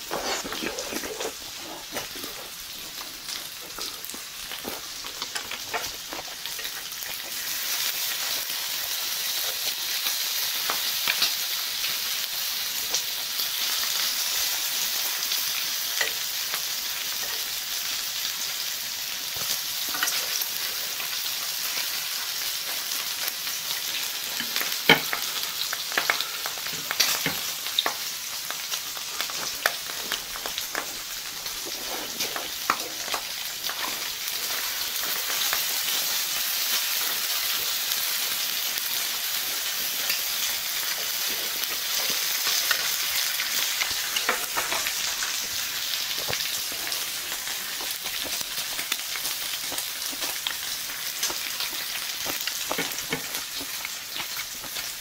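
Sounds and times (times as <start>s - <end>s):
pork sizzling on a griddle: 0.0s - 55.0s.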